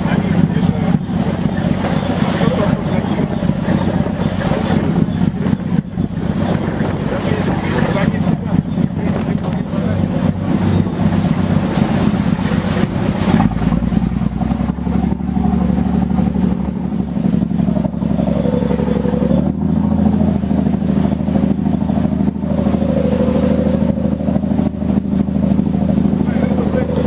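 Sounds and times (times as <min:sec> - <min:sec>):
boat engine droning: 0:00.0 - 0:27.0.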